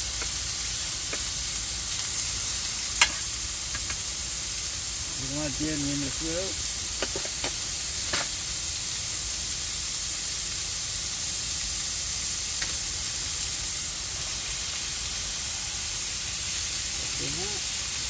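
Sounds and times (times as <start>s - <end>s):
meat and onion sizzling in pan: 0.0s - 18.0s.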